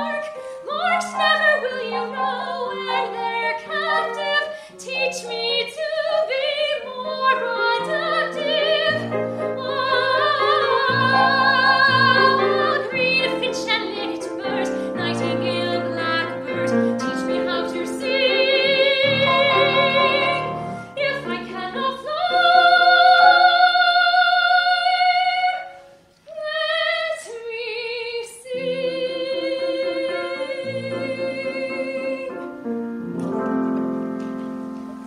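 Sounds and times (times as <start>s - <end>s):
woman singing with vibrato: 0.0s - 32.4s
grand piano: 0.0s - 35.0s.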